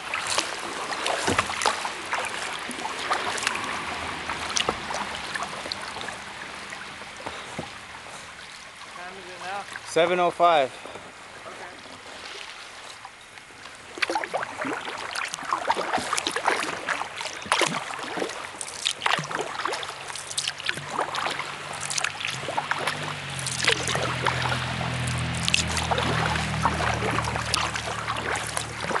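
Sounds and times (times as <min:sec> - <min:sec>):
low engine hum: 0:00.0 - 0:09.9, 0:10.7 - 0:29.0
water dripping off paddle: 0:00.0 - 0:10.0, 0:12.2 - 0:29.0
kayak paddle splashes: 0:00.0 - 0:29.0.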